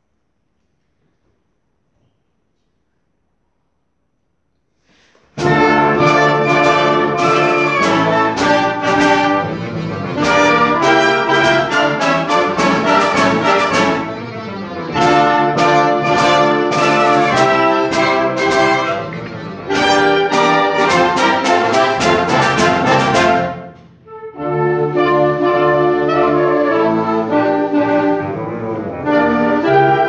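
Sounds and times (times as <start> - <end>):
brass band playing a march: 5.4 - 30.0.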